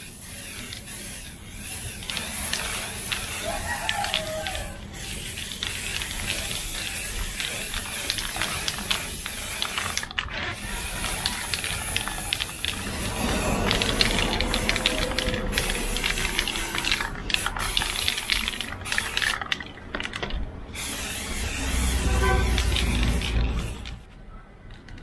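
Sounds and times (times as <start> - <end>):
spray paint can spraying: 0.0 - 24.1.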